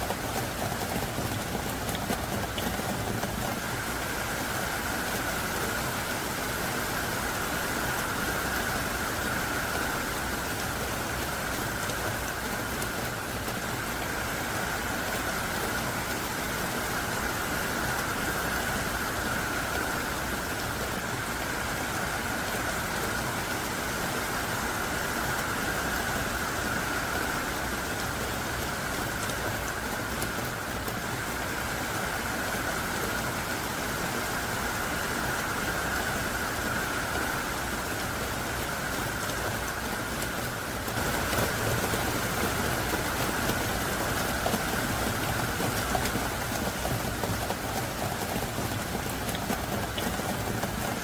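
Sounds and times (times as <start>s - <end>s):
heavy pouring rain: 0.0s - 51.0s.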